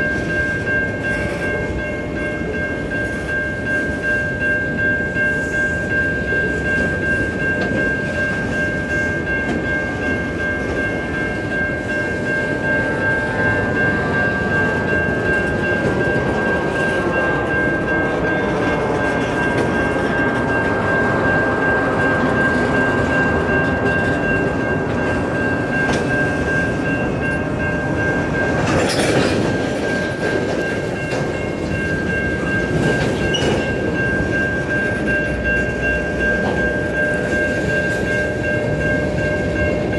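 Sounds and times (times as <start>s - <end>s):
crossing warning bell ringing: 0.0s - 39.9s
train wheels rumbling on rails: 0.0s - 39.9s.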